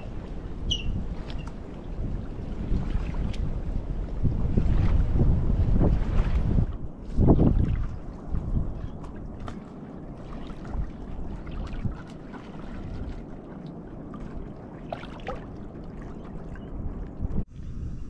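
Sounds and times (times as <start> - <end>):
waves lapping against shore: 0.0 - 17.2
wind rumble on microphone: 0.0 - 18.0.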